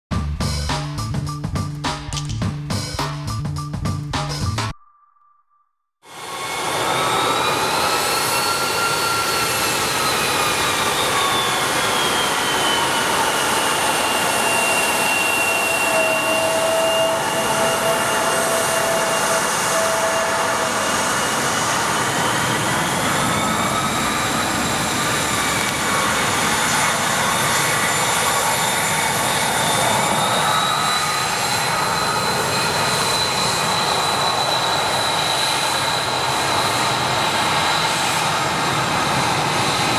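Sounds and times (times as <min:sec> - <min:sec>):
jet engines whining: 0:06.1 - 0:39.9.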